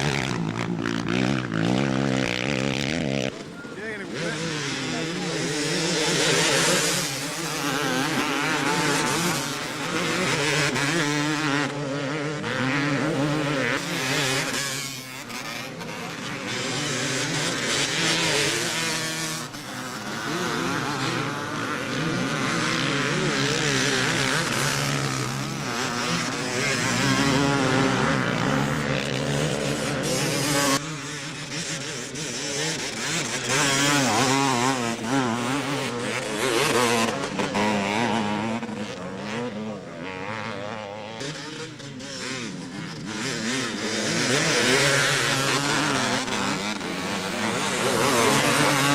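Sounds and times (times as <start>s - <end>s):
motocross engines revving: 0.0s - 48.9s.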